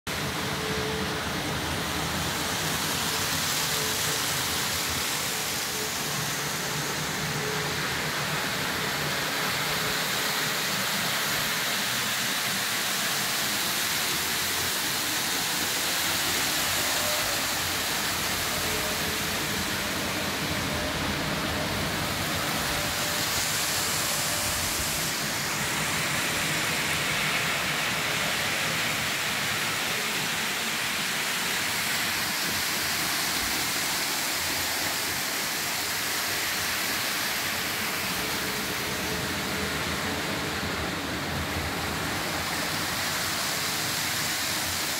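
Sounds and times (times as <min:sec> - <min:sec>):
model train wheels and motors whirring: 0:00.1 - 0:44.9.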